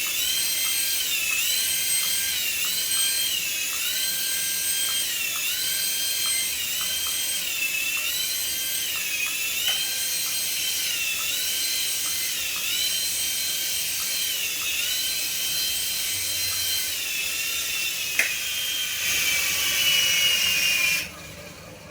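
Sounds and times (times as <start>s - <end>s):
toy high-pitched electronic whine: 0.0s - 21.1s.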